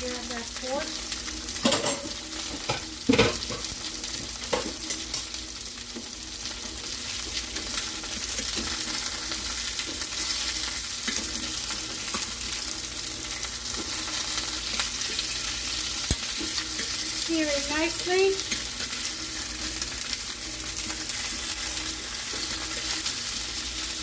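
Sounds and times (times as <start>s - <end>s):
meat sizzling in a hot pan: 0.0s - 24.0s.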